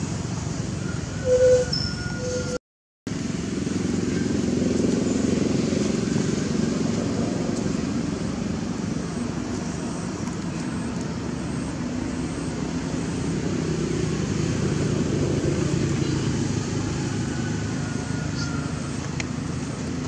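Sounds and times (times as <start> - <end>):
engine rumbling: 0.0 - 20.0.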